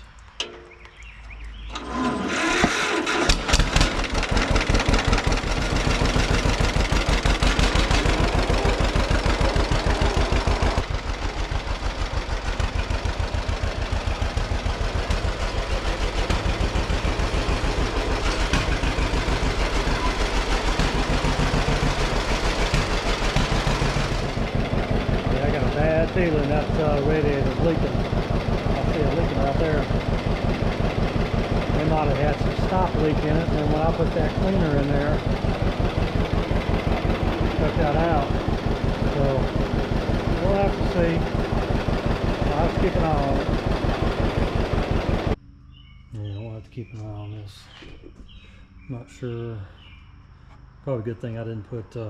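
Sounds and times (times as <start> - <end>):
tractor engine starting and running: 0.0 - 45.4.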